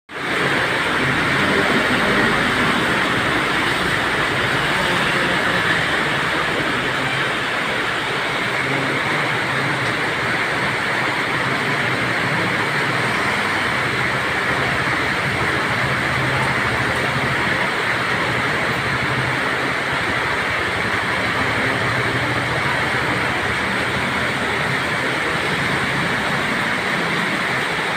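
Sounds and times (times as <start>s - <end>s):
rain pouring: 0.1s - 27.9s.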